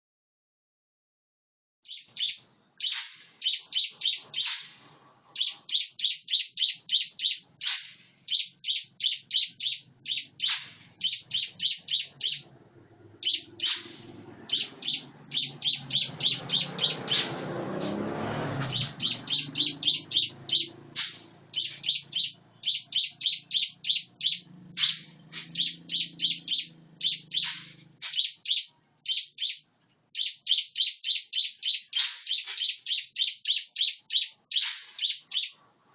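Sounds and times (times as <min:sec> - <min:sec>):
bird high chirping song: 0:01.9 - 0:35.6.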